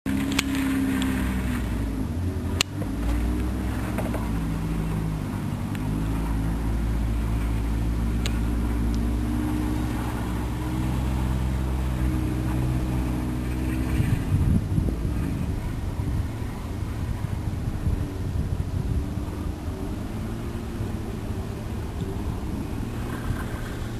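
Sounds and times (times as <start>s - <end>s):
car engine running: 0.1s - 23.9s.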